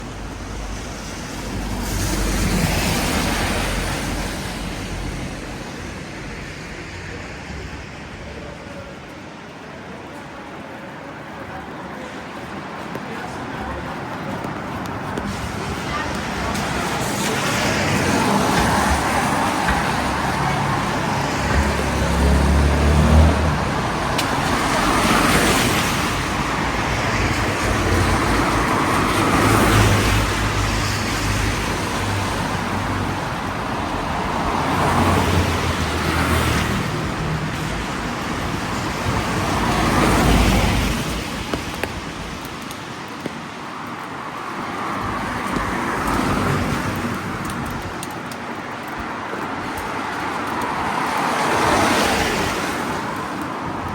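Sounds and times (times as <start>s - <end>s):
cars passing on wet road: 0.0s - 53.9s.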